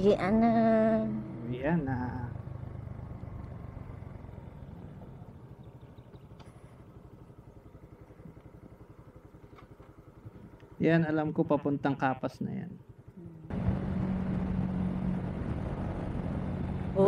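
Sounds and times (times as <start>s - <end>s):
motorcycle engine riding off: 0.0s - 12.1s, 12.8s - 17.0s.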